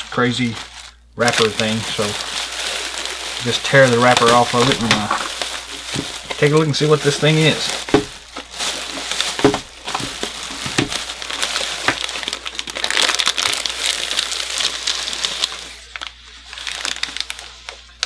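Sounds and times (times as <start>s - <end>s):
plastic wrap crinkling and tearing: 0.0s - 18.0s.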